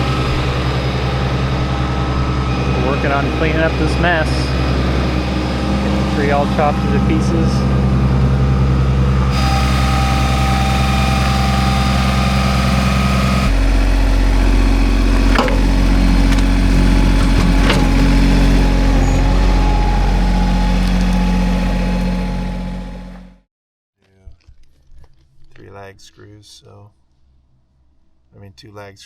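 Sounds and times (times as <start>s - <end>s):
engine idling: 0.0s - 23.4s.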